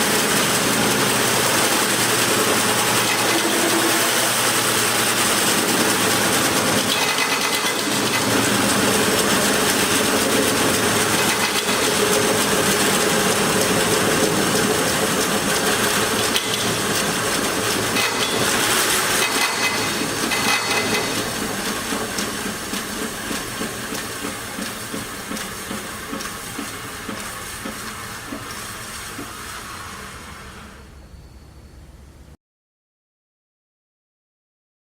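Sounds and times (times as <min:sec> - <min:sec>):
band saw running: 0:00.0 - 0:31.2.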